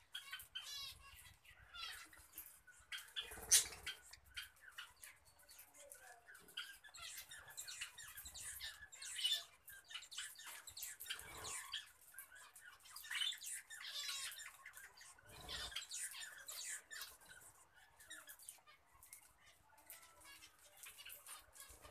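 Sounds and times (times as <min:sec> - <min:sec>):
budgerigars chirping and squawking: 0:00.0 - 0:21.9.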